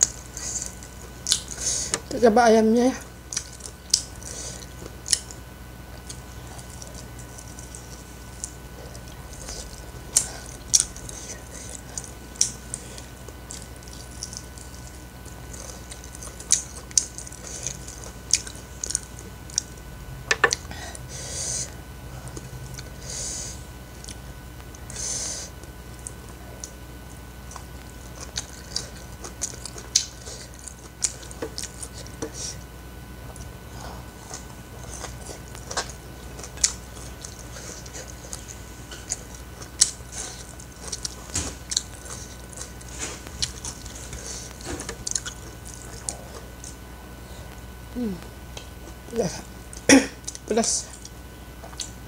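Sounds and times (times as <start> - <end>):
person chewing and biting food: 0.0 - 2.0, 3.3 - 20.7, 27.4 - 49.0, 49.6 - 52.0.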